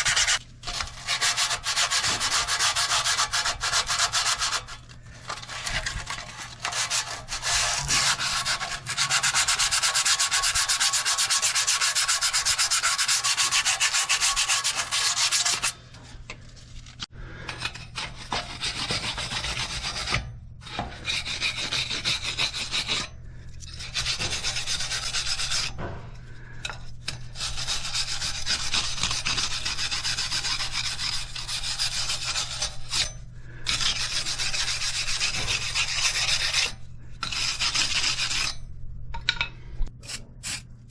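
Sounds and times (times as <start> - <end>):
abrasive scraping on metal: 0.0 - 38.7.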